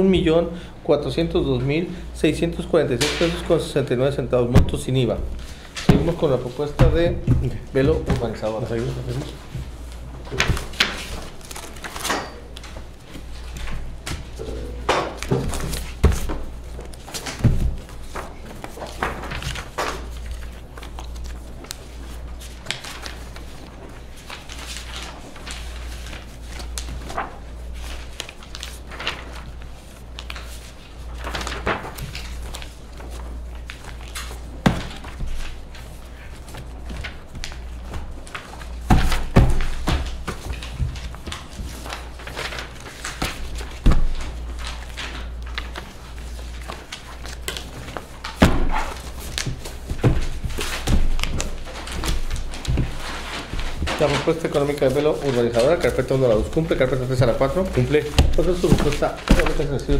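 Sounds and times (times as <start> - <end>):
paper rustling and page flips: 2.9 - 59.9.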